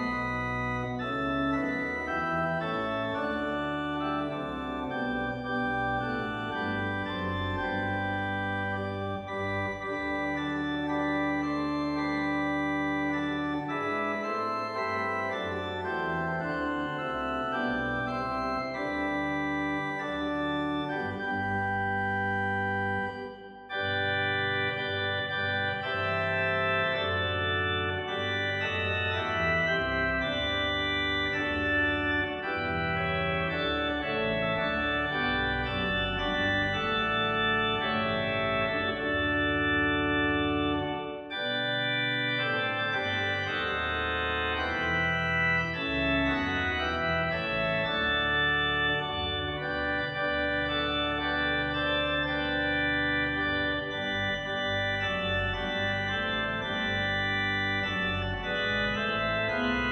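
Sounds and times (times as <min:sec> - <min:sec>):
slow keyboard chords: 0:00.0 - 0:59.9.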